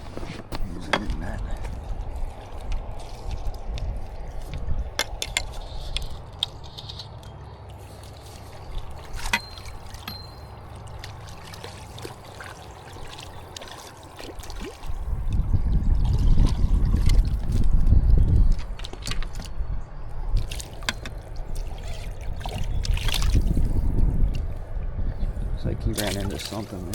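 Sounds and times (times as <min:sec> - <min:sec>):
water trickling and lapping: 0:00.0 - 0:26.9.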